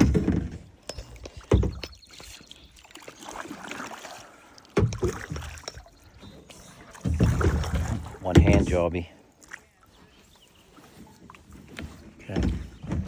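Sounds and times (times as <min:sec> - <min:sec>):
water splashing at a kayak: 0:00.0 - 0:13.0.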